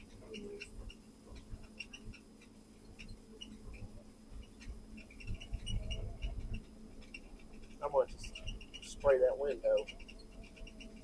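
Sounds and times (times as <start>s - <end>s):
machine engine hum: 0.0s - 11.0s
squeaky cab window chirping: 0.0s - 11.0s.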